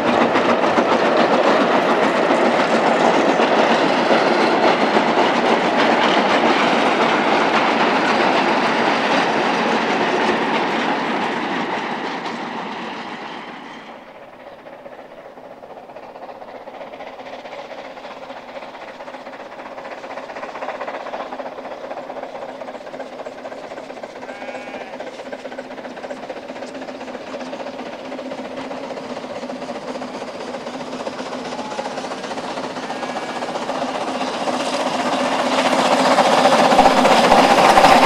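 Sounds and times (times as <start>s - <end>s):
steam train running: 0.0s - 38.0s
train wheels clattering on rails: 0.0s - 38.0s.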